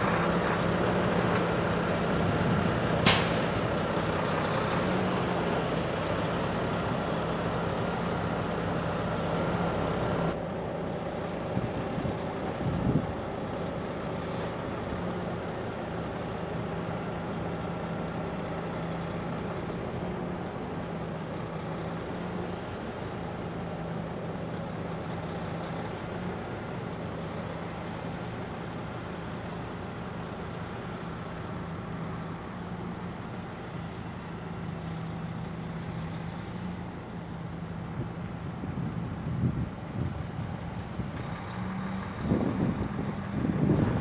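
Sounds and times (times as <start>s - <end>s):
diesel truck engine droning: 0.0s - 44.0s.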